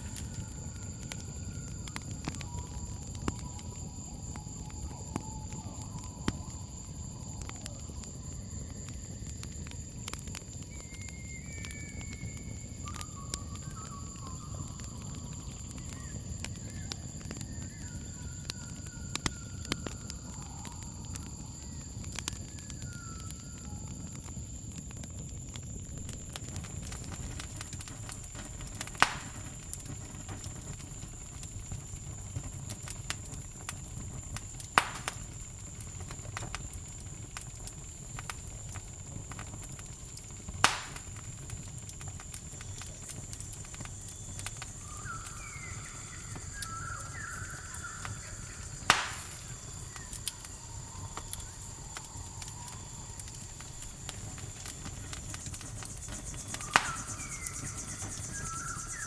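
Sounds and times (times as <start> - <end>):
campfire crackling: 0.0 - 59.0
cricket trill: 0.0 - 59.0
loud fire pops: 0.0 - 59.0.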